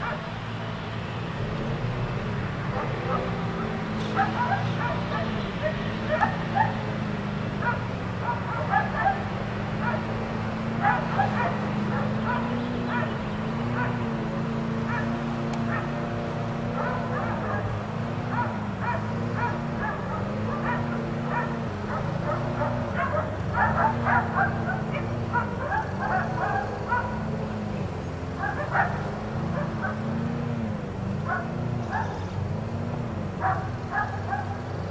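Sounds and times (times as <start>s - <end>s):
dogs barking and yipping: 0.0s - 0.5s, 2.4s - 34.9s.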